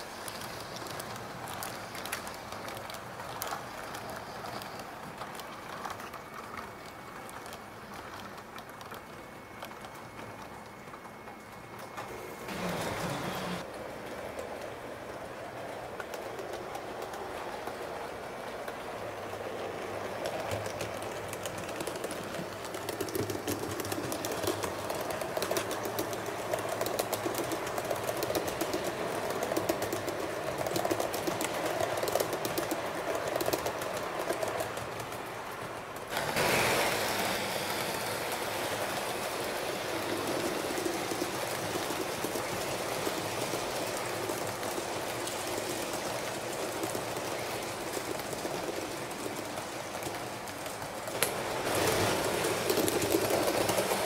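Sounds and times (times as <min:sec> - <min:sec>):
train running on rails: 0:00.0 - 0:54.0
wheels clicking over track: 0:00.0 - 0:54.0.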